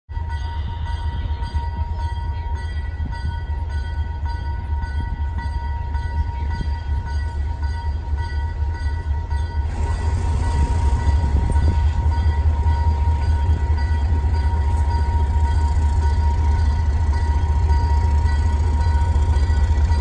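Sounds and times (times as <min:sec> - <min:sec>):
locomotive engine rumbling: 0:00.1 - 0:20.0.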